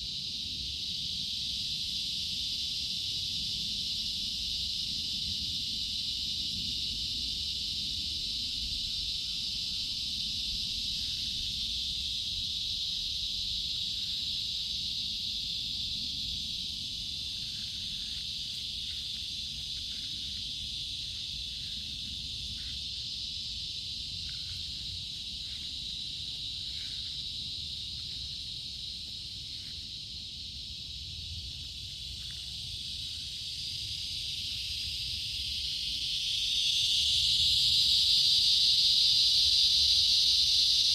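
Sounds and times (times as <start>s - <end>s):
insects shrilling: 0.2s - 40.9s.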